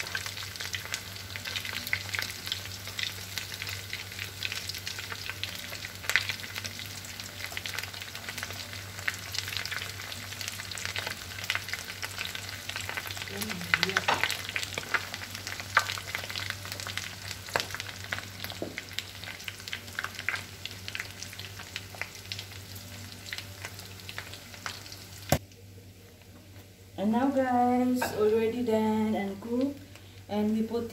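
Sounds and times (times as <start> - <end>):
oil sizzling with pops: 0.0 - 26.8.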